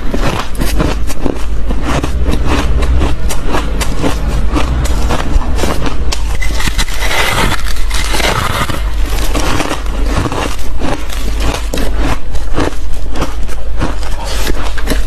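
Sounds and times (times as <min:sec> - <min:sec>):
ice crunching while bitten: 0:00.0 - 0:15.0.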